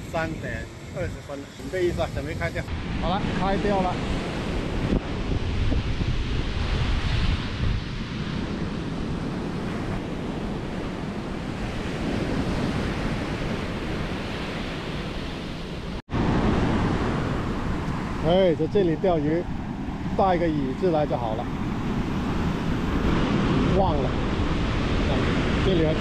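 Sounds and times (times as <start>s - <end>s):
ocean surf breaking on beach: 0.0s - 26.0s
wind buffeting microphone: 0.0s - 26.0s.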